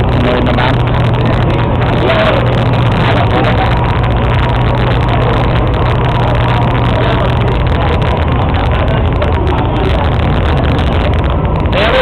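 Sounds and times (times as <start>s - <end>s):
boat engine droning: 0.0s - 12.0s
chatter of voices: 0.0s - 12.0s.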